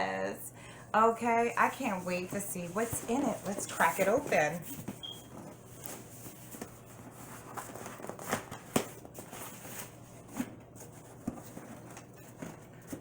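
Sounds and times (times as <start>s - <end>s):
cardboard rustling and scraping: 1.5s - 13.0s.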